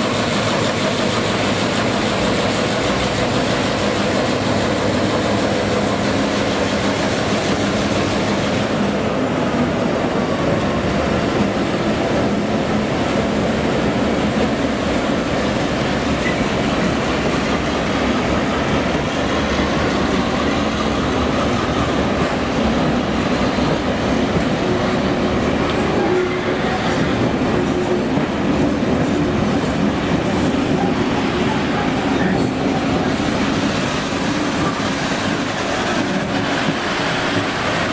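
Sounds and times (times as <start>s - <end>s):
train wheels rolling on rails: 0.0s - 37.9s.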